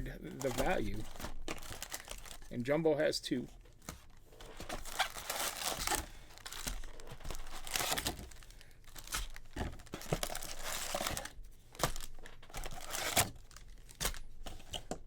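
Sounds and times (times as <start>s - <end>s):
plastic wrapper tearing and crinkling: 0.0s - 2.5s, 3.8s - 14.7s.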